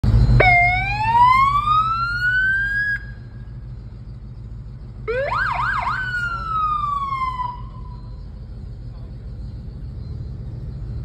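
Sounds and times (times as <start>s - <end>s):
fire truck siren wail and yelp: 0.0s - 9.9s
low engine rumble: 0.0s - 11.0s.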